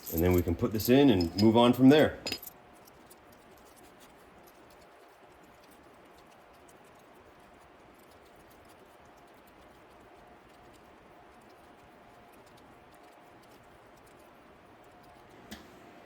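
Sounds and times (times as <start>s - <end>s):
faint handling ticks: 0.0s - 15.3s.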